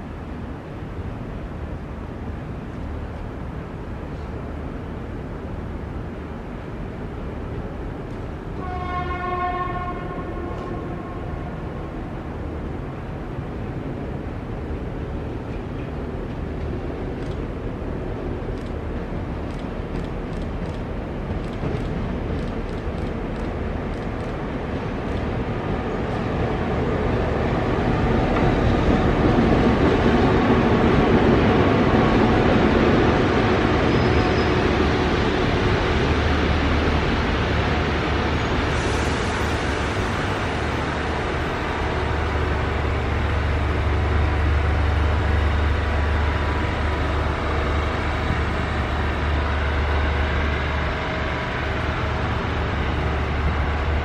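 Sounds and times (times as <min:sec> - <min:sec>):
diesel locomotive passing: 0:00.0 - 0:54.0.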